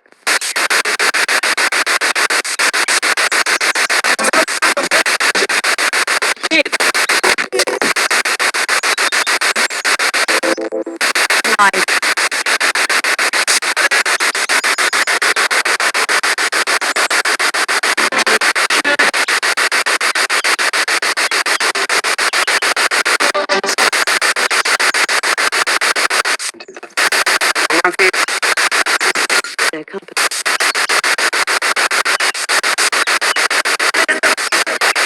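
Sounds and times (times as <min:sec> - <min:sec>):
radio static chopping: 0:00.0 - 0:35.0
snatches of broadcast voice: 0:00.0 - 0:35.0.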